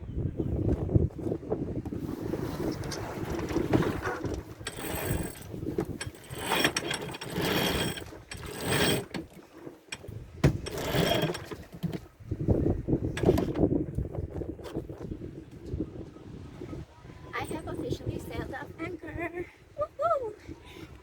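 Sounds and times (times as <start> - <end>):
low rumble of wind and water: 0.0 - 21.0.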